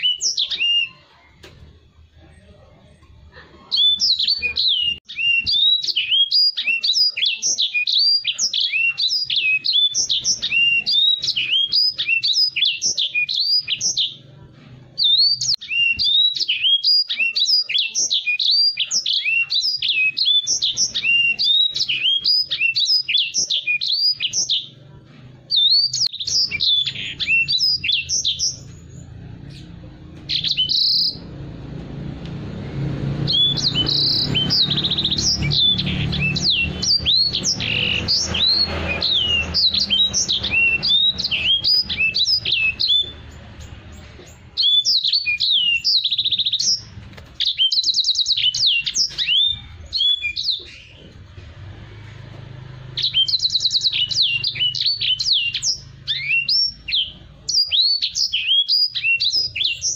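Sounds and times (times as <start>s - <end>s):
caged bird singing: 0.0s - 59.9s.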